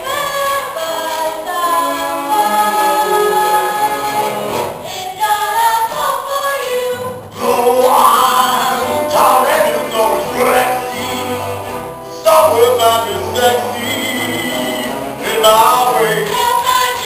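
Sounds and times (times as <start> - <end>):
chorus of young voices singing: 0.0 - 17.0.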